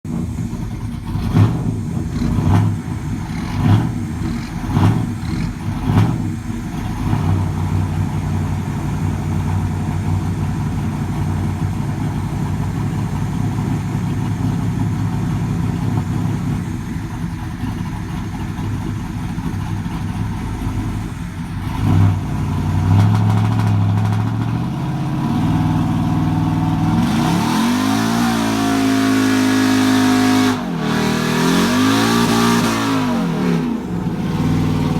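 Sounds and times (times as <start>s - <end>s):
truck engine revving: 0.0s - 34.9s.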